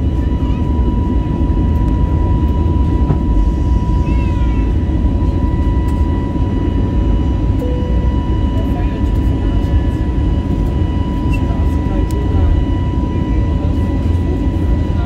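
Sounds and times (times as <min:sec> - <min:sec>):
jet engine roar in cabin: 0:00.0 - 0:15.0
jet engine whine: 0:00.0 - 0:15.0.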